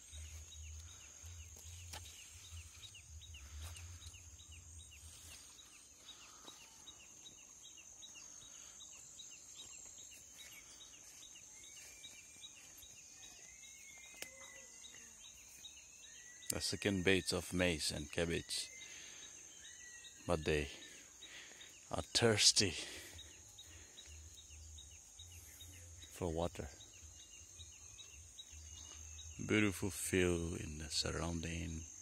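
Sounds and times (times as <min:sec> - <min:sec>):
bird chirping: 0:00.0 - 0:32.0.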